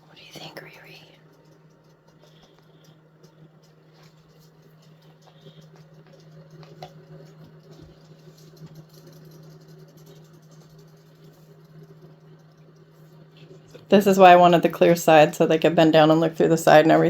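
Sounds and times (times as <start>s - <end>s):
faint ticks and patters: 0.0s - 17.0s.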